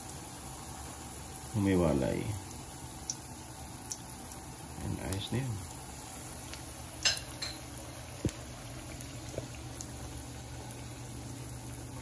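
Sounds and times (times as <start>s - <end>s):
oil sizzling in a wok: 0.0s - 12.0s.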